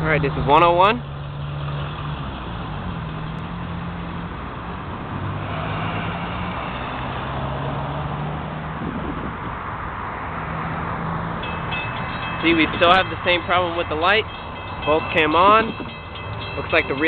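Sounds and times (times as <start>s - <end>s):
low engine hum: 0.0s - 17.0s
road traffic noise: 0.0s - 17.0s.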